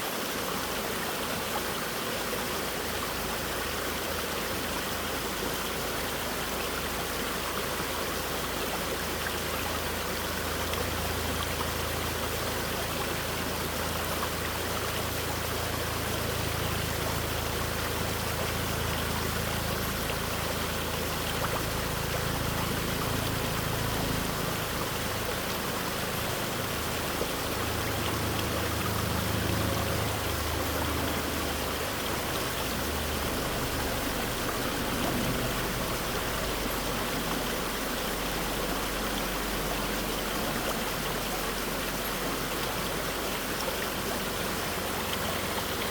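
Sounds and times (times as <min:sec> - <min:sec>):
stream water splashing over rocks: 0:00.0 - 0:45.9.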